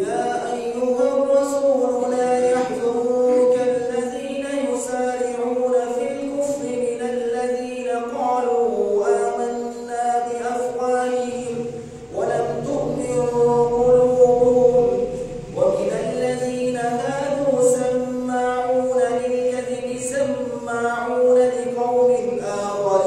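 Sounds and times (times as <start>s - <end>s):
man chanting melodic recitation: 0.0s - 23.0s.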